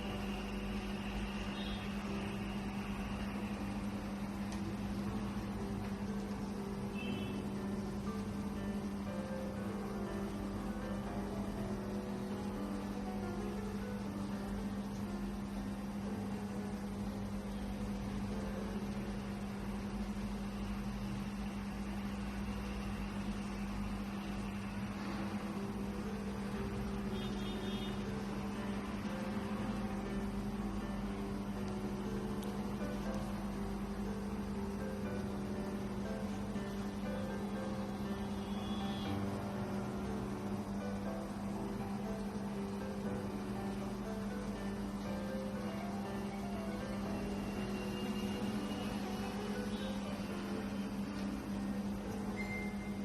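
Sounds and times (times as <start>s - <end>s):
constant hiss: 0.0s - 53.0s
faint music: 0.0s - 53.0s.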